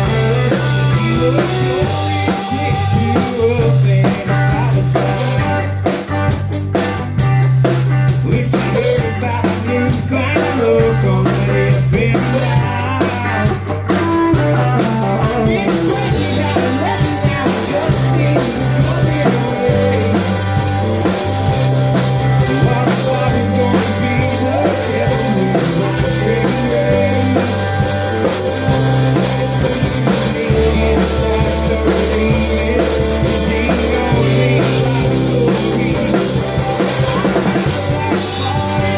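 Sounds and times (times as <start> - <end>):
man singing: 0.0 - 6.1, 8.1 - 21.2, 21.9 - 38.9
rock band playing: 0.0 - 38.9.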